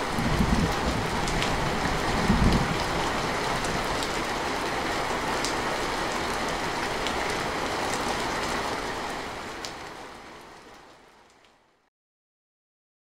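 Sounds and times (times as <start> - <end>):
heavy rain falling: 0.0 - 11.7.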